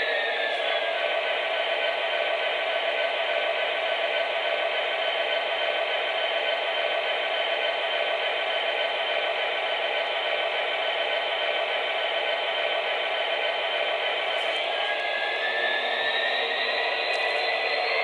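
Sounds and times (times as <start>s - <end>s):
model locomotive diesel engine sound: 0.0s - 18.0s.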